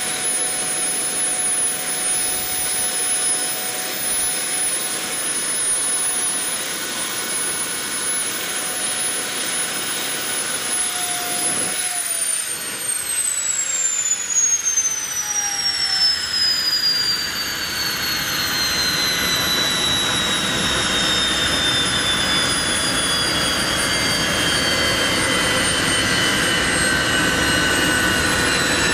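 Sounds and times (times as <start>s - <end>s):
high-pitched turbine whine: 0.0s - 28.9s
jet engine rush: 0.0s - 28.9s.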